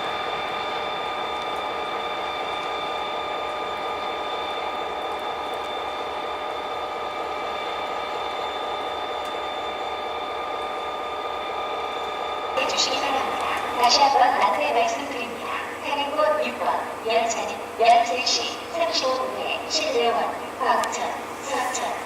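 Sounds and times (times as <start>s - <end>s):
train mechanical whine: 0.0s - 22.0s.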